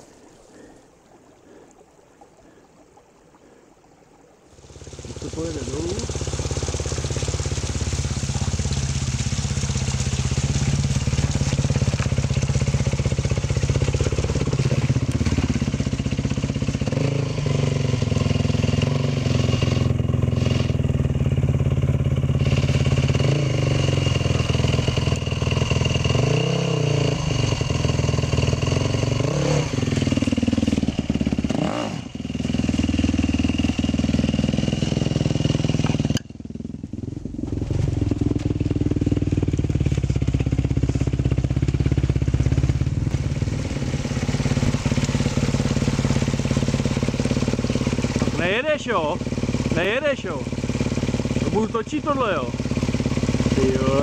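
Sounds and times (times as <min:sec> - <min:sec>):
motorcycle engine revving: 0:04.6 - 0:54.0.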